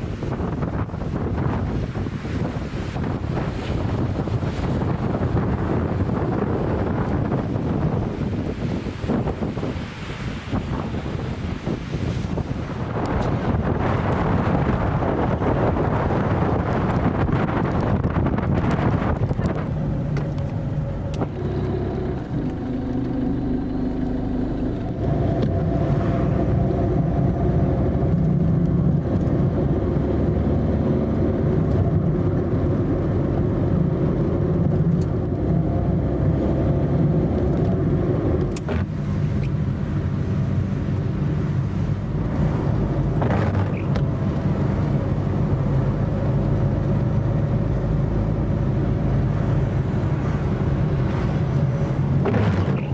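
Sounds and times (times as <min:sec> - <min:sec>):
car engine and road noise: 0:00.0 - 0:52.9
wind on microphone: 0:00.0 - 0:52.9.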